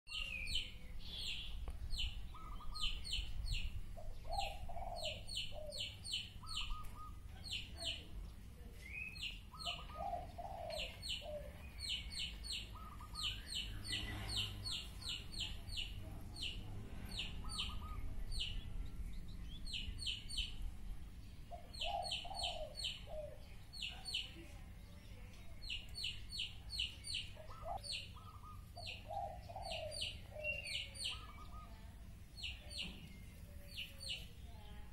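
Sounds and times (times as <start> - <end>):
lower bending bird calls: 0.1 - 8.0, 8.8 - 20.6, 25.6 - 34.7
small birds chirping: 0.1 - 34.9.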